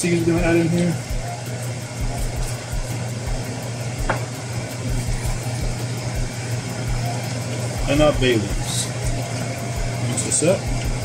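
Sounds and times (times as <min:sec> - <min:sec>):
pot bubbling and hissing: 0:00.0 - 0:11.0
steady low hum: 0:00.0 - 0:11.0.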